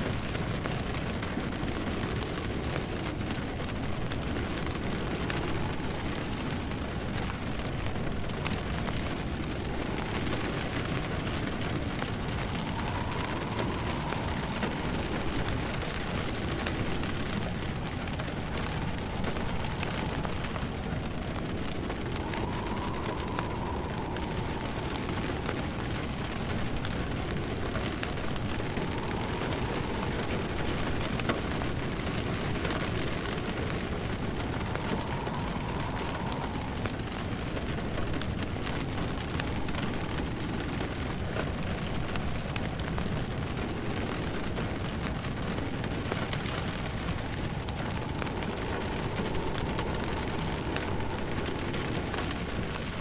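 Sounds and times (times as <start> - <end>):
log fire crackling: 0.0 - 53.0
rain pattering: 0.0 - 53.0
faint whistling tone: 4.3 - 42.4, 43.6 - 53.0.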